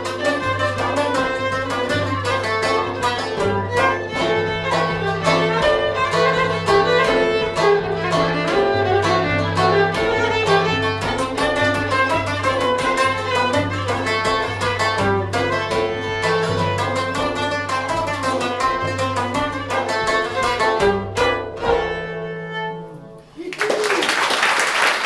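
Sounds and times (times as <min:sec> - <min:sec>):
frame drum beat: 0:00.0 - 0:22.1
violin melody: 0:00.0 - 0:23.3
plucked string instrument: 0:00.0 - 0:23.5.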